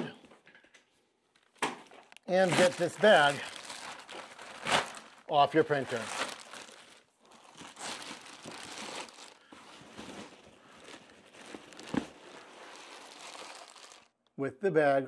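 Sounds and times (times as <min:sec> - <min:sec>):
plastic bag crinkling: 0:01.4 - 0:14.2.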